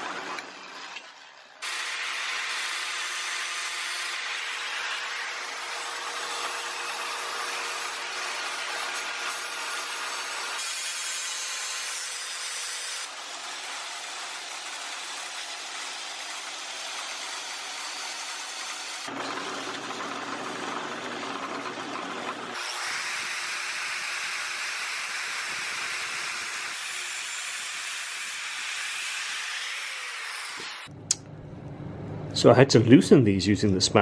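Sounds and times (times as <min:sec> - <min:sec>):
power tools whirring on steel: 0:00.0 - 0:30.9.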